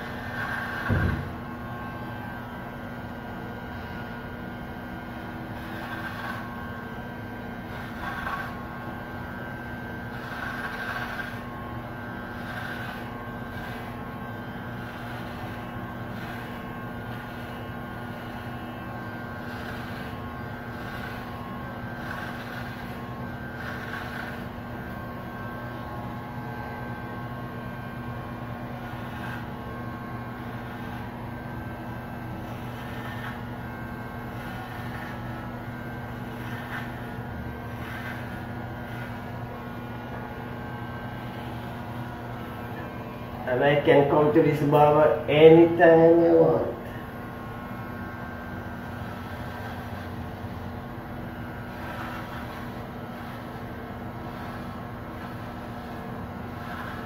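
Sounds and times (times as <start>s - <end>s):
electric hair clippers buzzing: 0.0s - 57.0s.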